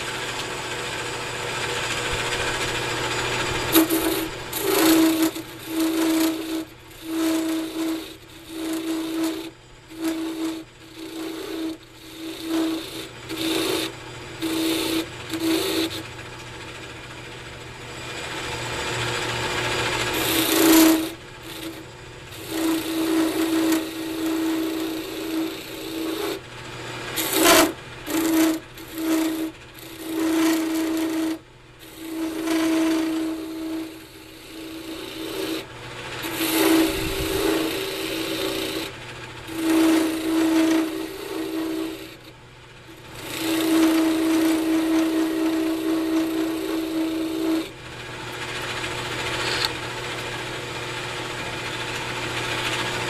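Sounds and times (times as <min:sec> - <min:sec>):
chisel scraping on wood lathe: 0:00.0 - 0:53.0.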